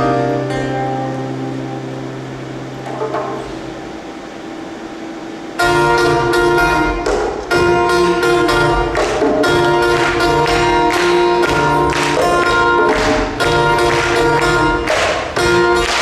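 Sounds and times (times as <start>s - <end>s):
percussive strikes: 0.0s - 16.0s
sustained pitched notes: 0.0s - 16.0s.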